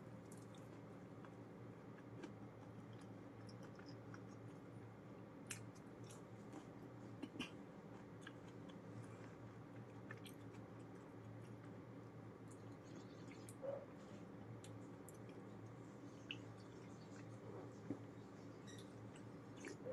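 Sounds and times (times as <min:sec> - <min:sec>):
steady low hum: 0:00.0 - 0:19.9
quiet chewing of food: 0:00.2 - 0:19.9.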